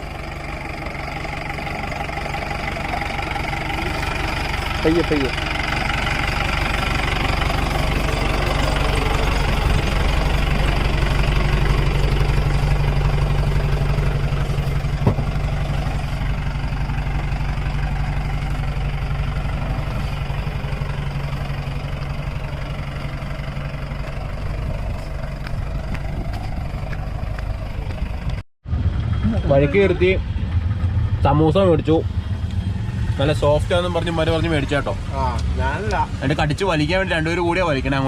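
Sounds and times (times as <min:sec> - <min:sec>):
diesel engine running at low revs: 0:00.0 - 0:38.0.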